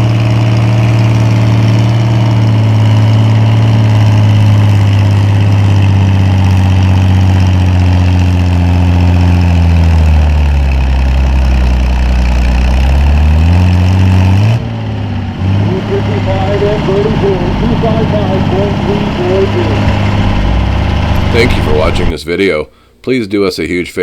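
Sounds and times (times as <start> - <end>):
tractor engine running loud: 0.0 - 22.1.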